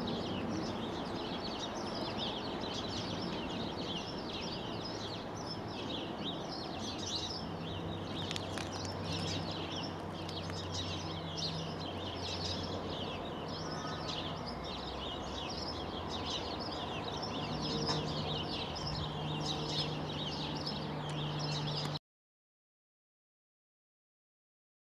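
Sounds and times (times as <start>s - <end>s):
distant locomotive hum: 0.0s - 22.0s
small birds chirping: 0.0s - 22.0s.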